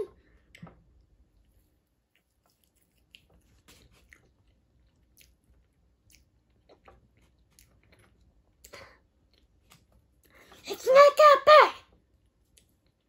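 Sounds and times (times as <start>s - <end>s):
faint chewing with crunches: 0.2s - 10.5s, 12.0s - 13.0s.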